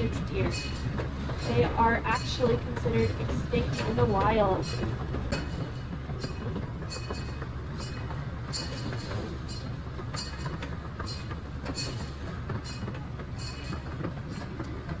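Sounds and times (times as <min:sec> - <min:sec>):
train rumbling: 0:00.0 - 0:15.0
wheels clicking on rails: 0:00.0 - 0:15.0.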